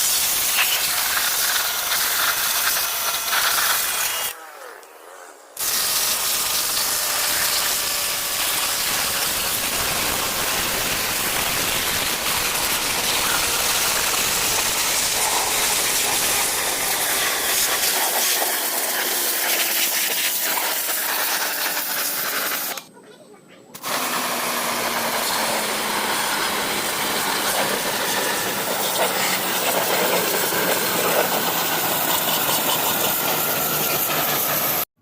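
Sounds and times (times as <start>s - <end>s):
water spray hissing: 0.0s - 4.1s, 5.6s - 22.9s, 23.8s - 34.9s
pump motor hum: 5.6s - 22.8s, 23.8s - 34.9s.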